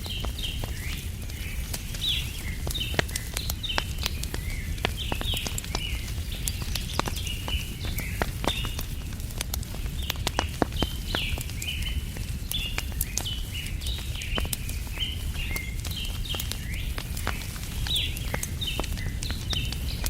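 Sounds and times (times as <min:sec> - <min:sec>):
birds chirping: 0:00.0 - 0:20.0
wood fire crackling and popping: 0:00.0 - 0:20.0.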